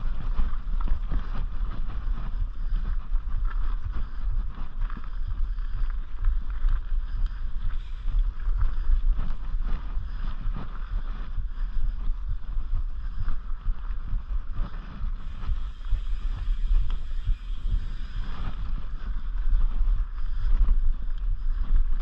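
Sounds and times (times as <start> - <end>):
bike rattling over bumps: 0.0 - 22.0
wind on microphone: 0.0 - 22.0.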